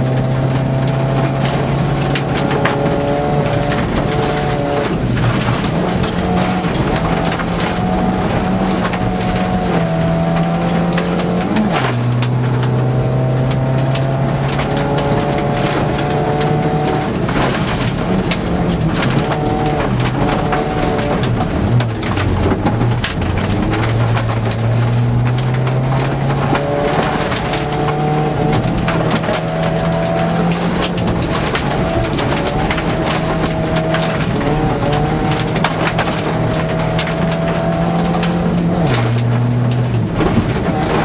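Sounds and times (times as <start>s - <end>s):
gravel striking car underside: 0.0s - 41.0s
rally car engine revving: 0.0s - 41.0s.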